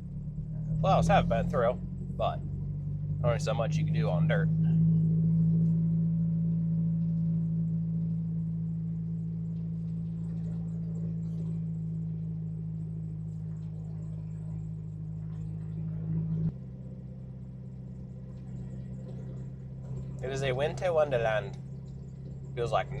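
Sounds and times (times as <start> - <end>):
car engine droning: 0.0 - 23.0
quieter hum: 0.0 - 23.0.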